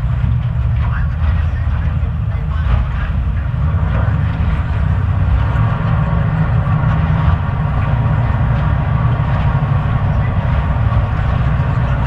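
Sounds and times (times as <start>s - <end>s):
boat engine rumble: 0.0s - 12.0s
rushing air and water: 0.0s - 12.0s.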